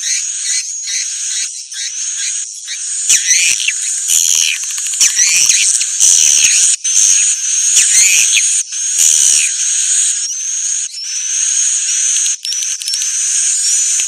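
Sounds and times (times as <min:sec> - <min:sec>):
bird chatter: 0:00.0 - 0:14.0
high rising whistled chirps: 0:00.0 - 0:14.0.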